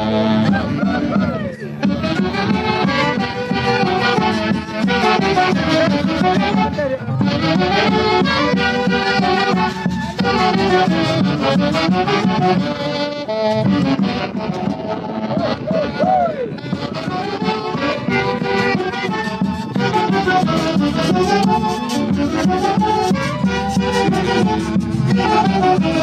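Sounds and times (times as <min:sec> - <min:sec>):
reed and brass wind melody: 0:00.0 - 0:26.0.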